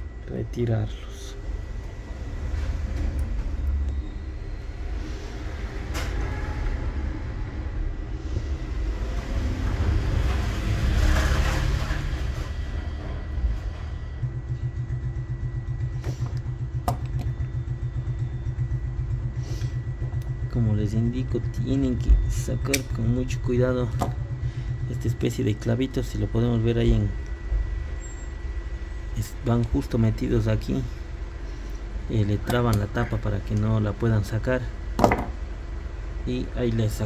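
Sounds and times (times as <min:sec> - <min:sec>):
vehicle motor rumbling: 0:01.4 - 0:33.5.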